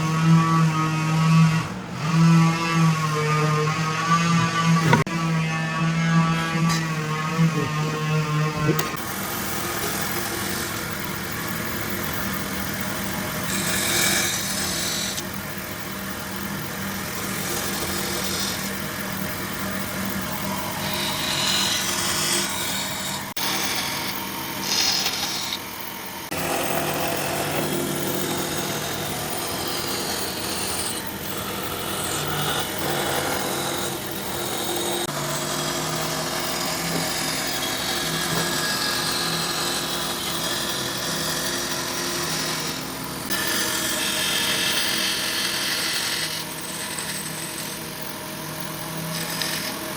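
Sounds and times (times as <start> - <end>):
power tool motor hum: 0.1 - 49.9
tool rasping wood: 1.4 - 11.0, 11.6 - 15.3, 17.1 - 47.8.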